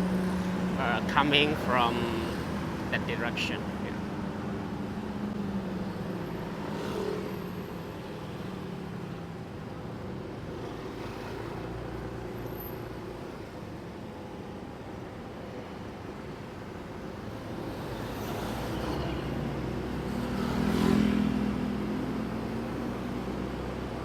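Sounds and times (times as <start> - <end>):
road and wind noise: 0.0 - 24.0
traffic engines running: 0.0 - 24.0.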